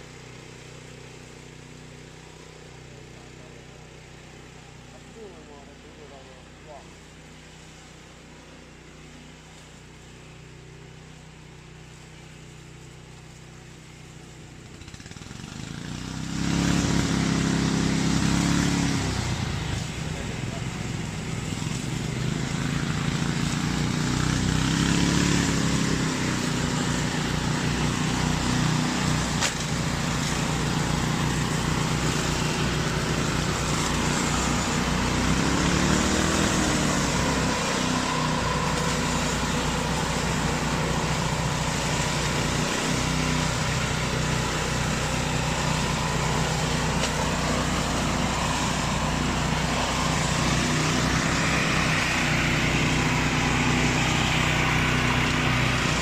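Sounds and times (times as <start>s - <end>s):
flail mower engine running: 0.0s - 56.0s.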